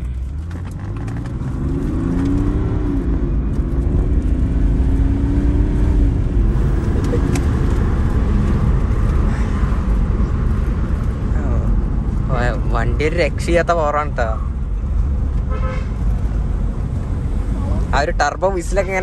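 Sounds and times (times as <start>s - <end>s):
diesel car engine accelerating: 0.0s - 18.9s
road rumble: 0.0s - 19.0s.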